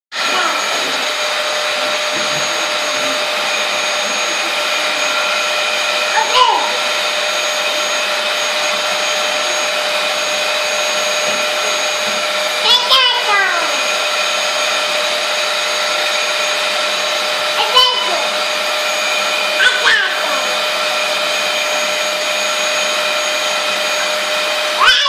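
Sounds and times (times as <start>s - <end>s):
vacuum cleaner running: 0.1s - 25.0s.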